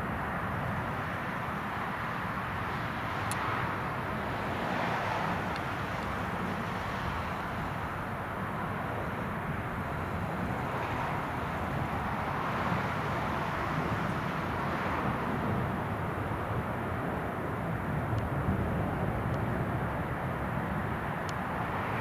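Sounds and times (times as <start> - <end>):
jet engines passing overhead: 0.0 - 22.0.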